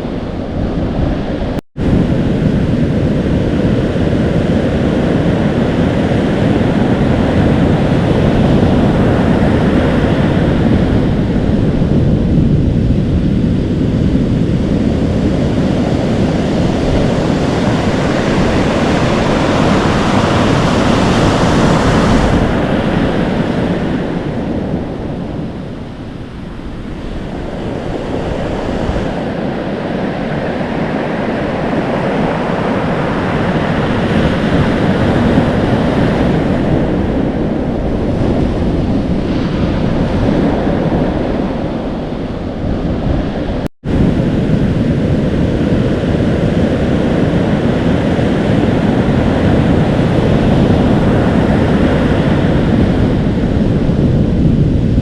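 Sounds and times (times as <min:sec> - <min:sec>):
ocean waves breaking: 0:00.0 - 0:55.0
wind on microphone: 0:00.0 - 0:55.0.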